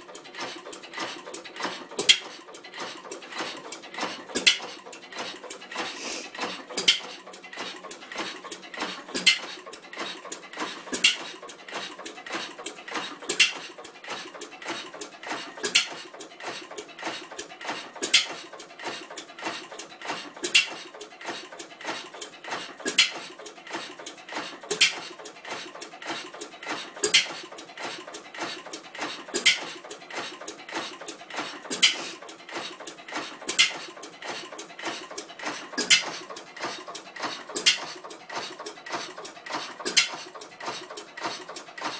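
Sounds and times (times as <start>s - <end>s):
mechanical clicking and tapping: 0.0s - 41.9s
stationary gas engine beat: 0.0s - 41.9s.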